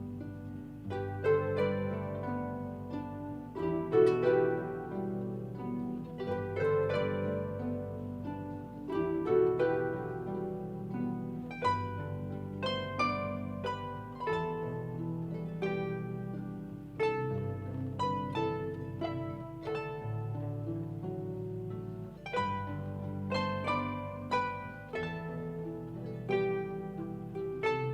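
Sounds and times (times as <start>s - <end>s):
harp melody: 0.0s - 27.9s.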